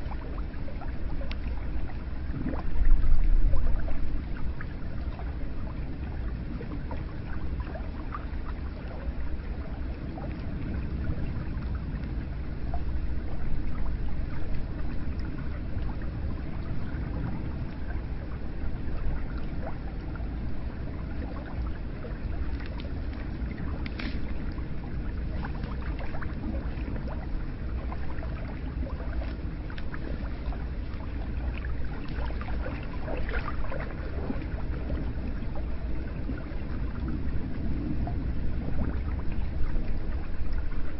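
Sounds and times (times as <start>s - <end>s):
small water drips: 0.0s - 40.9s.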